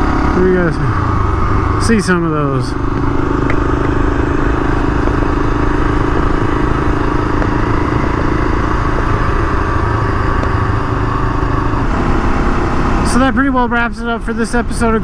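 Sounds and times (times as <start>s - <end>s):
motorcycle engine running: 0.0s - 15.0s
road and wind rumble: 0.0s - 15.0s.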